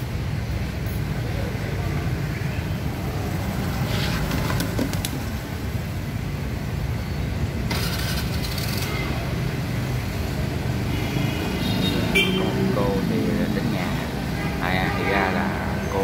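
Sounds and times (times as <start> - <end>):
scooter engines rumbling: 0.0 - 16.0.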